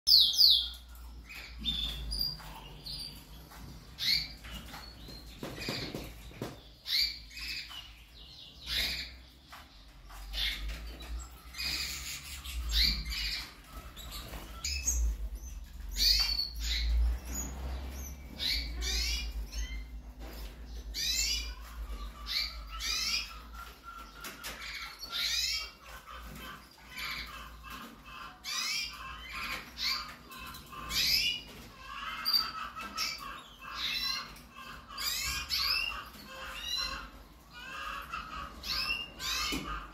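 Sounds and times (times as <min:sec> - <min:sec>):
canaries chirping: 0:00.1 - 0:39.9.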